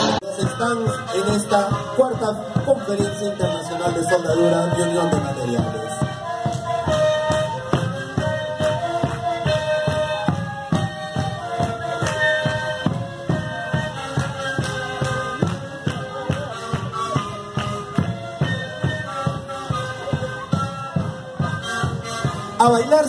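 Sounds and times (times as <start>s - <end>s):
reedy wind instruments melody: 0.0s - 23.0s.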